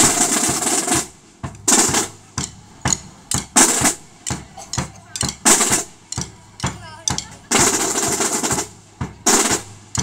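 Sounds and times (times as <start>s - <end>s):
drum corps playing cadence: 0.0s - 10.0s.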